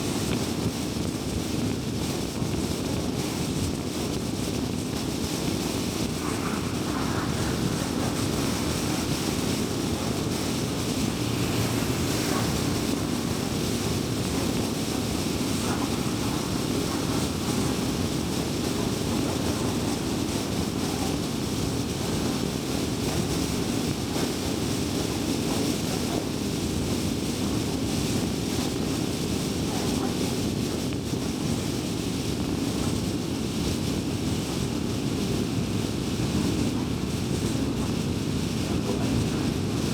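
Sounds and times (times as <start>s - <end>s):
car tyre noise on highway: 3.3s - 39.9s.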